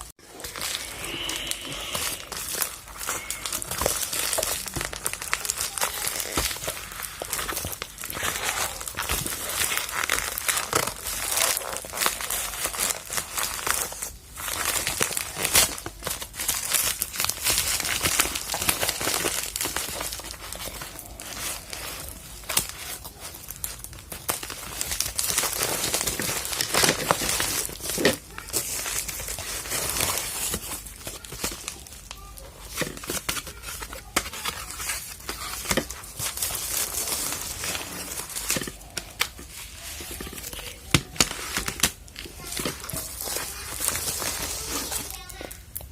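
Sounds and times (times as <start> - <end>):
parcel packaging crinkling and tearing: 0.0 - 45.9.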